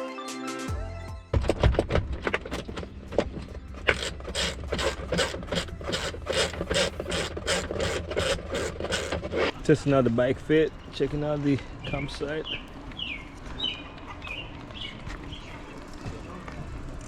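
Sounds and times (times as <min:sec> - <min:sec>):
bicycle drivetrain clicking: 0:01.6 - 0:17.0.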